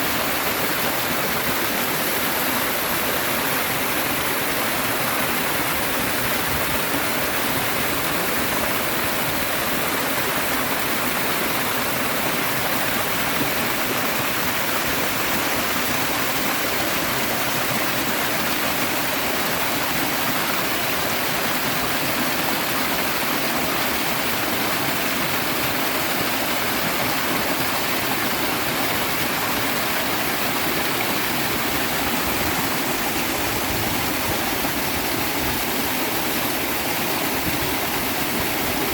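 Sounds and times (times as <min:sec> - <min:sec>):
river and waterfall rushing: 0:00.0 - 0:38.9.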